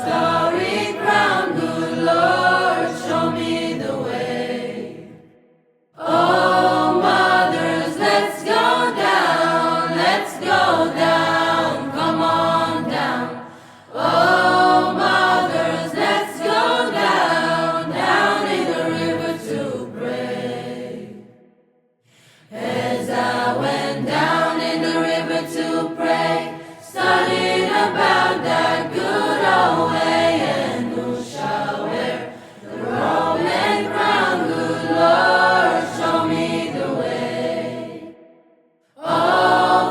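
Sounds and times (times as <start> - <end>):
voices singing in harmony: 0.0 - 5.4, 6.0 - 21.5, 22.1 - 39.9.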